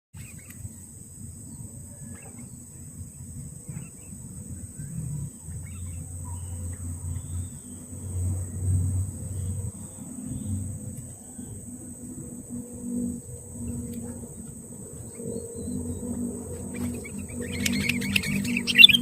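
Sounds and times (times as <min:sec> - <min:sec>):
high insect drone: 0:00.2 - 0:19.0
low rumble: 0:00.7 - 0:19.0.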